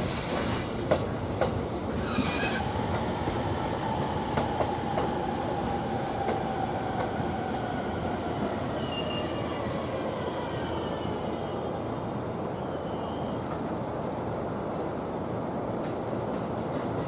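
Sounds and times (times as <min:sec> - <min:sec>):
electric train moving on track: 0:00.0 - 0:17.0.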